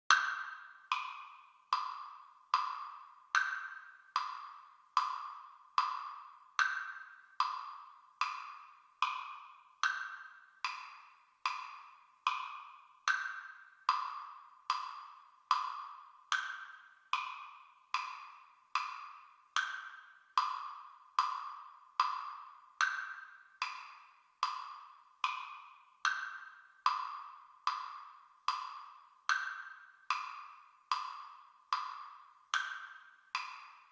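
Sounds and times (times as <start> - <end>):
metronome clicking: 0.1 - 33.9.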